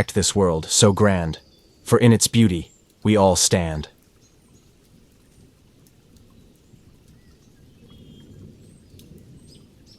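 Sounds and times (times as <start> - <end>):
faint birdsong: 0.0 - 9.9
low outdoor rush: 0.0 - 9.9.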